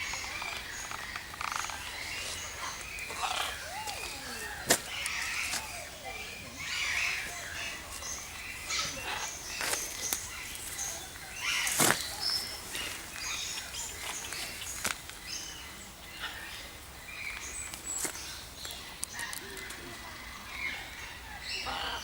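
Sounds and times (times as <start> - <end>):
aviary birds chirping: 0.0 - 22.0.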